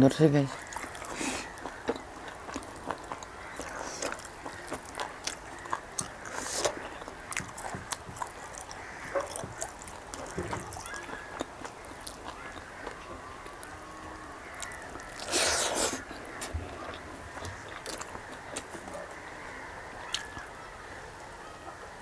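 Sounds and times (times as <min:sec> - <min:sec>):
chewing with mouth clicks: 0:00.5 - 0:20.6.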